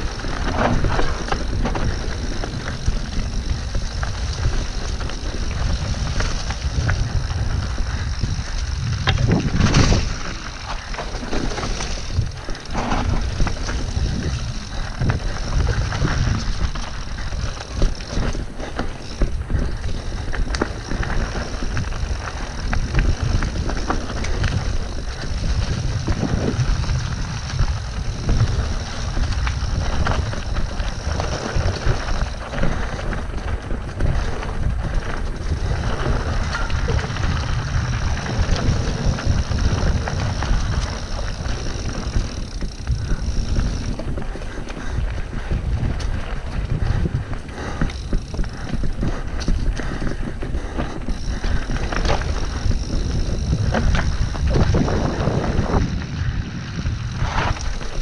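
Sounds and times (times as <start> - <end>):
bike knocks and rattles: 0.0 - 58.0
bike tyres rolling on dirt: 0.0 - 58.0
wind noise on microphone: 0.0 - 58.0.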